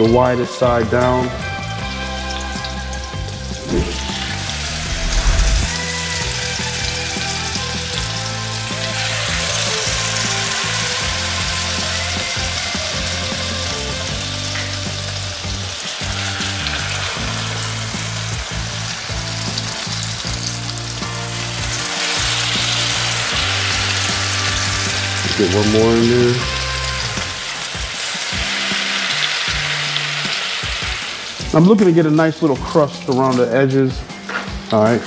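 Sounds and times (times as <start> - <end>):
bread sizzling in hot oil: 0.0 - 35.0.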